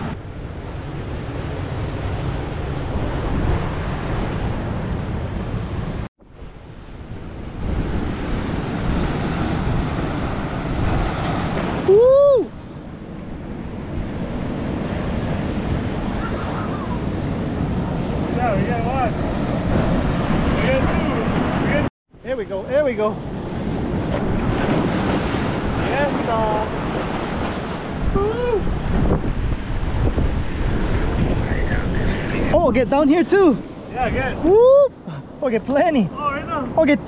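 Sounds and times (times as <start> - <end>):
ocean surf breaking on boulders: 0.0 - 37.0.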